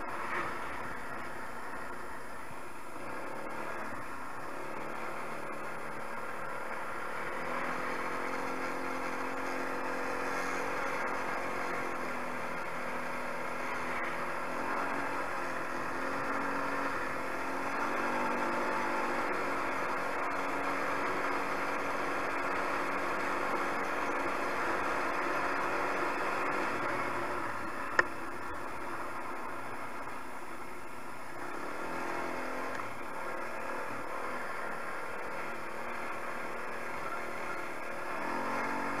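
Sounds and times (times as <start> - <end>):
quad engine running: 0.0 - 39.0.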